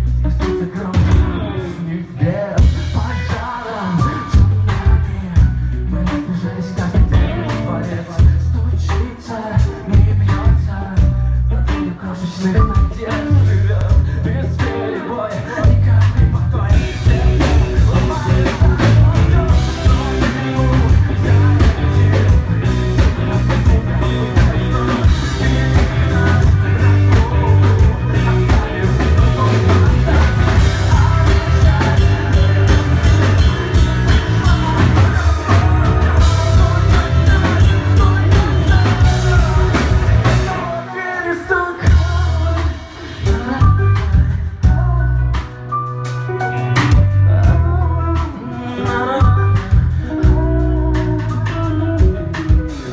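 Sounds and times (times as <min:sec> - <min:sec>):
live rock band playing: 0:00.0 - 0:52.9
person singing: 0:00.0 - 0:52.9.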